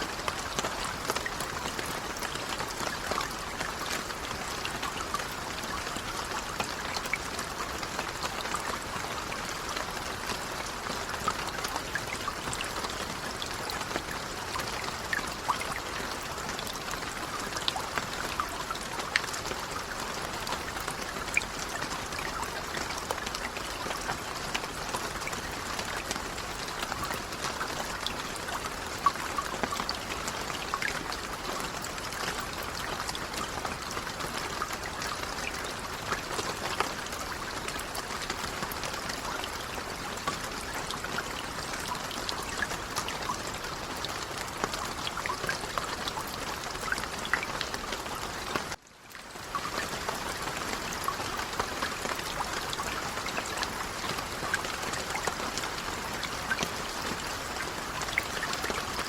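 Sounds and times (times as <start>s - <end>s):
light rain patter: 0.0s - 59.0s.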